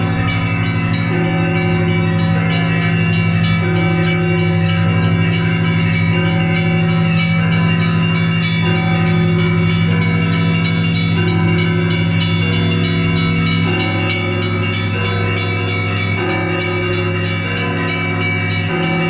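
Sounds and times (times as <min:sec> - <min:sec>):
deep bells ringing: 0:00.0 - 0:19.0
small bells struck quickly: 0:00.0 - 0:19.0.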